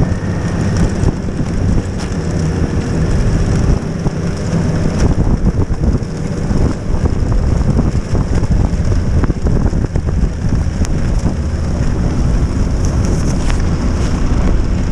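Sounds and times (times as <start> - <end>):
snowmobile engine running: 0.0 - 14.9
wind buffeting the microphone: 0.0 - 14.9.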